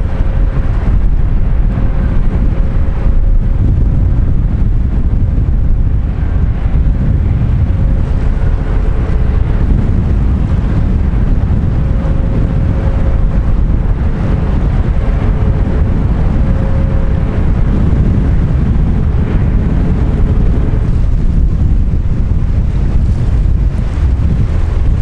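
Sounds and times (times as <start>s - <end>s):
faint ship engine hum: 0.0s - 25.0s
wind buffeting microphone: 0.0s - 25.0s.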